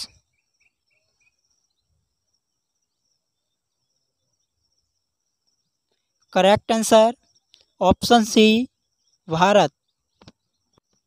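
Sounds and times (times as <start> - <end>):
faint chirps: 0.0 - 11.0.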